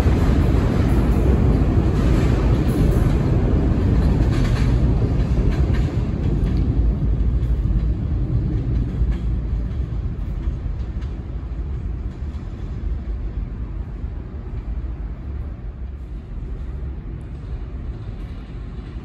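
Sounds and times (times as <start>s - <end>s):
subway train rumble: 0.0s - 19.0s
wheels clicking on rails: 0.0s - 19.0s.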